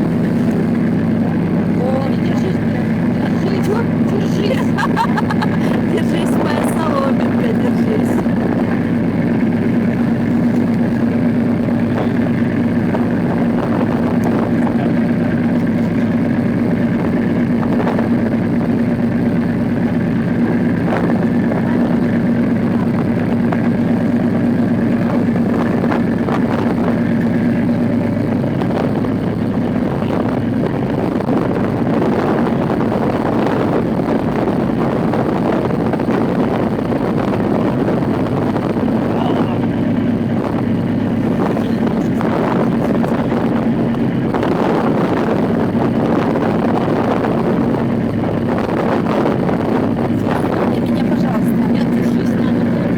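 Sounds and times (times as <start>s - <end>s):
boat engine low drone: 0.0s - 52.9s.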